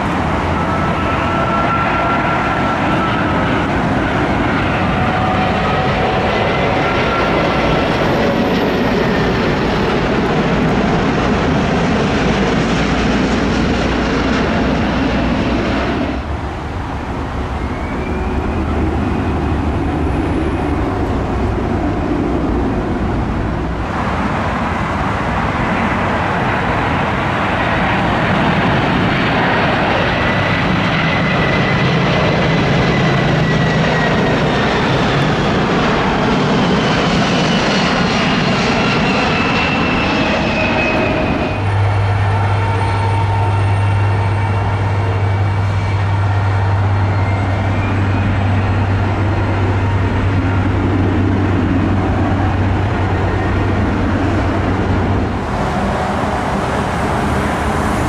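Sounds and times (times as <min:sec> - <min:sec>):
jet engines whining and roaring: 0:00.0 - 0:58.0.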